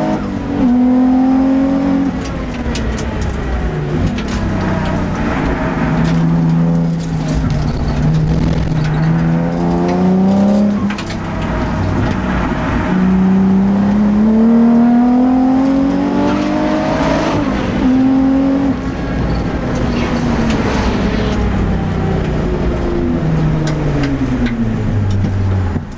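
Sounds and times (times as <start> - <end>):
race car engine accelerating: 0.0 - 25.8.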